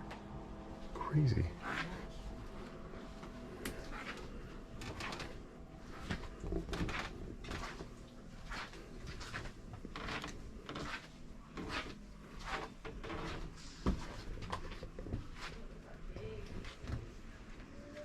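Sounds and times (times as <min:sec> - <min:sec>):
low steady indoor hum: 0:00.0 - 0:18.0.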